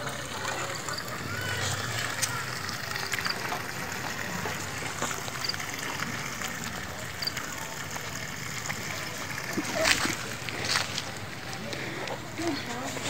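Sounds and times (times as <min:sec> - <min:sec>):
water trickling into pit: 0:00.0 - 0:13.0.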